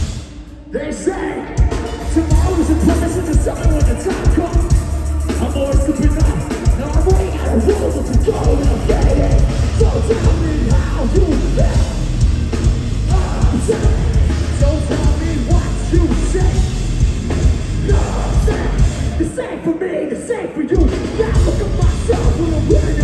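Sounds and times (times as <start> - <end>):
live metal band playing: 0.0 - 19.4, 20.8 - 23.0.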